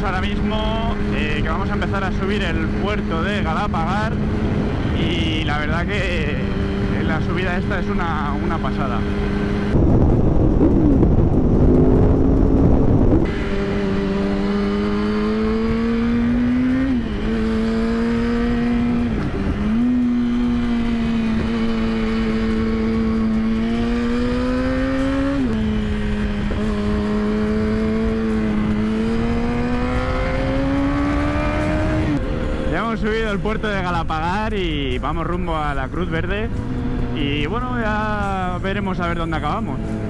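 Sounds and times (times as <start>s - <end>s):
wind rush: 0.0s - 35.0s.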